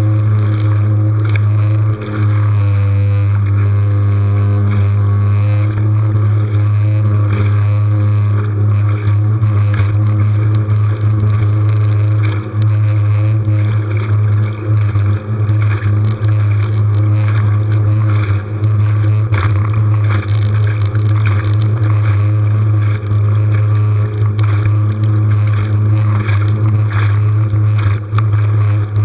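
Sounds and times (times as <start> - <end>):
small motor humming: 0.0 - 29.0.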